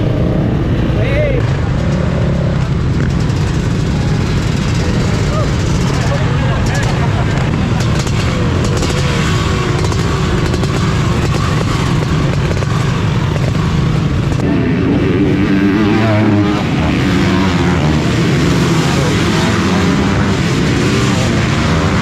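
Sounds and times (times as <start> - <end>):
dirt bikes revving: 0.0 - 22.0.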